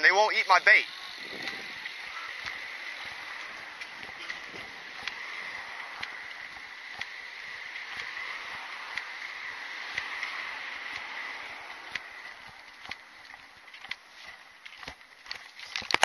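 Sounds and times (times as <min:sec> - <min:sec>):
high-pitched hum: 0:00.0 - 0:13.1
traffic hiss: 0:00.0 - 0:14.3.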